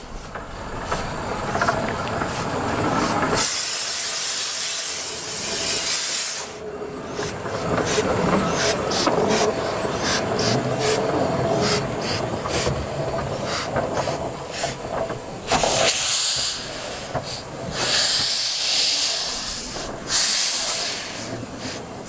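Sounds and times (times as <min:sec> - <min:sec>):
loud hisses of steam: 0:00.0 - 0:22.0
steam locomotive steam bursts: 0:00.0 - 0:22.0.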